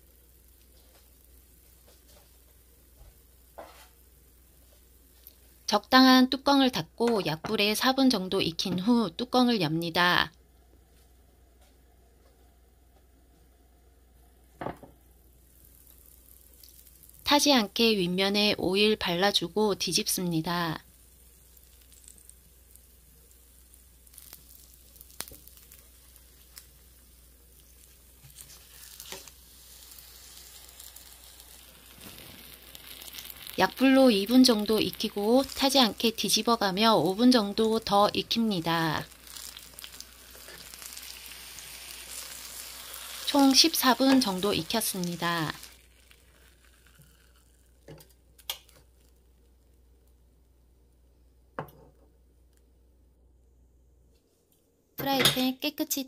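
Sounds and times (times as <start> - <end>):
oil sizzling in a pan: 0.0 - 8.9, 10.5 - 50.1.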